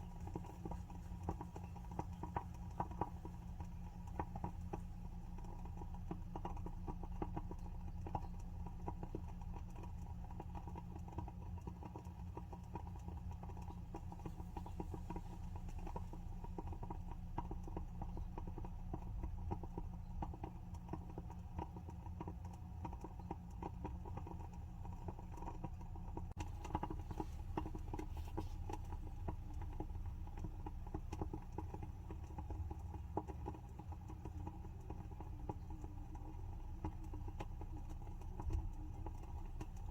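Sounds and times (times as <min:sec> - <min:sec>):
candle wick crackling: 0:00.0 - 0:22.3, 0:23.4 - 0:39.9.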